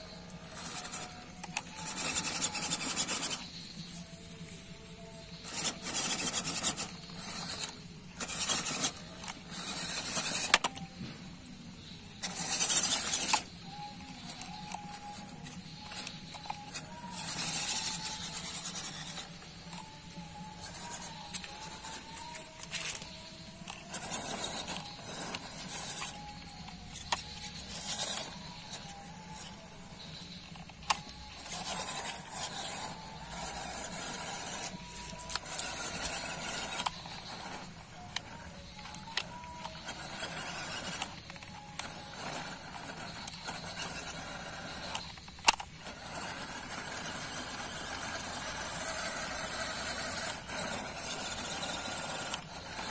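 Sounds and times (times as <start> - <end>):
electric motor whining: 0.0 - 52.9.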